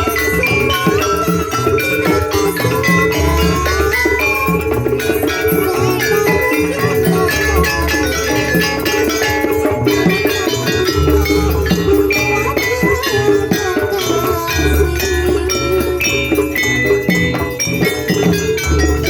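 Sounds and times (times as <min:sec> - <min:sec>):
drums beating steady rhythm: 0:00.0 - 0:19.0
held melodic tones: 0:00.0 - 0:19.0
ringing metal percussion: 0:00.0 - 0:19.0.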